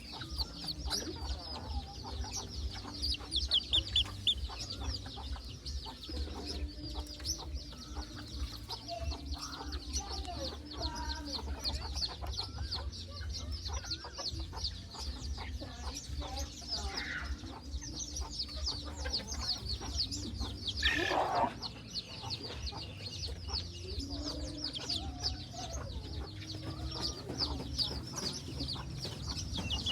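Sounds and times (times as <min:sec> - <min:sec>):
fast high-pitched chirping: 0:00.0 - 0:29.9
rooster clucking: 0:00.0 - 0:29.9.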